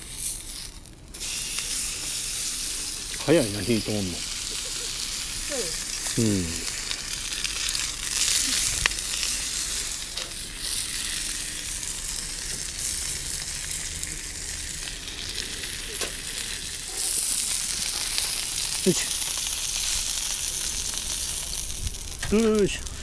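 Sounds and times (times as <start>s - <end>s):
steak sizzling in a frying pan: 0.0s - 23.0s.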